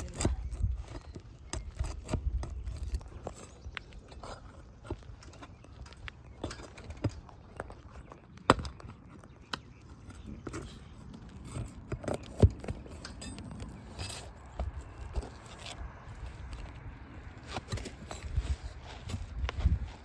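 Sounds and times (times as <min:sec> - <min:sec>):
tool scraping on roof shingles: 0:00.0 - 0:20.0.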